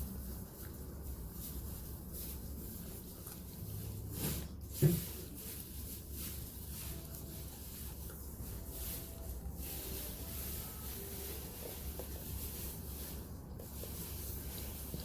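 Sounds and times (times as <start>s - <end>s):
small pet crunching cabbage: 0.0s - 15.0s.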